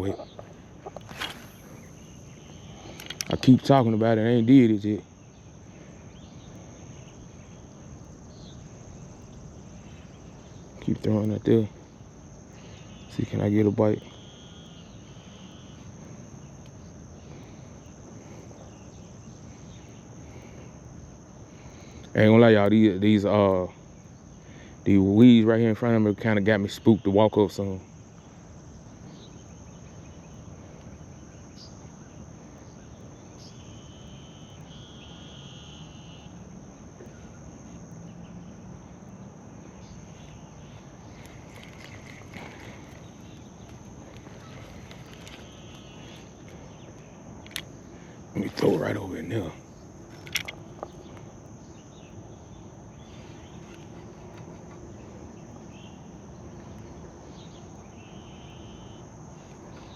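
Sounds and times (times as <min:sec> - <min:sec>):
crickets chirping: 0:00.0 - 0:59.9
insect chorus droning: 0:00.0 - 0:59.9.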